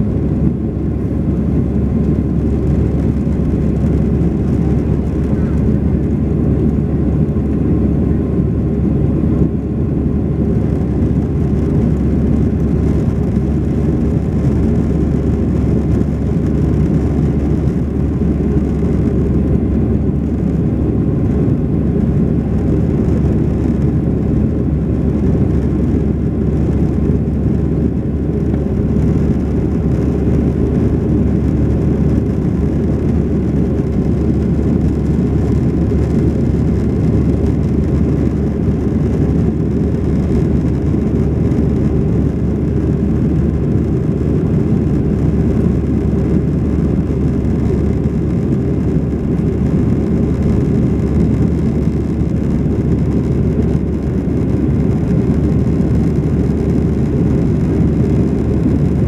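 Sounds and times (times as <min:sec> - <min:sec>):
jet engines in cabin: 0:00.0 - 0:59.0.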